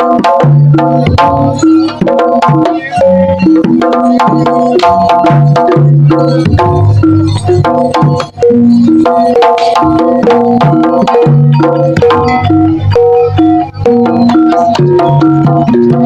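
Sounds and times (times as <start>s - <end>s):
drumming: 0.0s - 16.0s.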